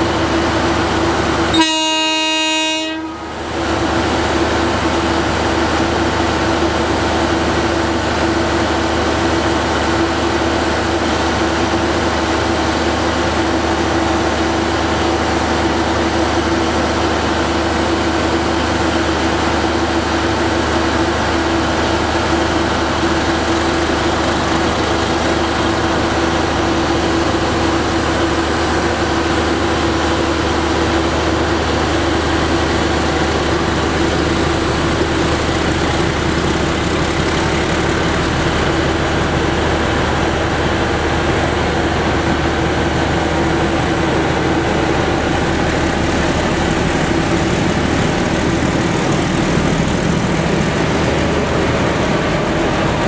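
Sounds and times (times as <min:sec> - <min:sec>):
diesel locomotive engine drone: 0:00.0 - 0:53.0
train coaches rolling: 0:00.0 - 0:53.0.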